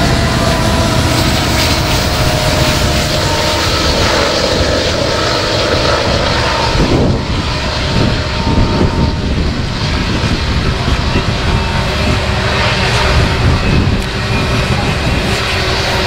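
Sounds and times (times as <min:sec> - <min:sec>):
diesel locomotives droning: 0:00.0 - 0:16.0
train wheels rumbling on rails: 0:00.0 - 0:16.0.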